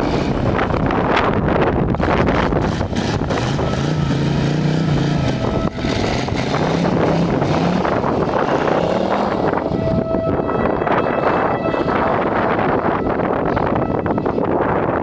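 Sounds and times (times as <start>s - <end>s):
car engine under throttle: 0.0s - 15.0s.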